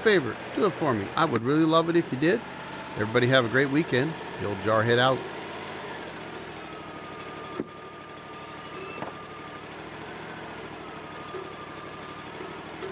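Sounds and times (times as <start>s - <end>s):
sawmill engine idling: 0.0s - 12.9s.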